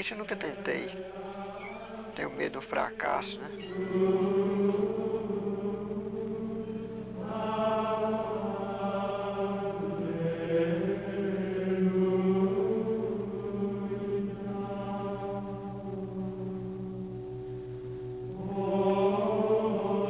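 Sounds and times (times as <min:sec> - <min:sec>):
low steady drone: 0:00.0 - 0:20.0
voices chanting slowly: 0:00.0 - 0:20.0.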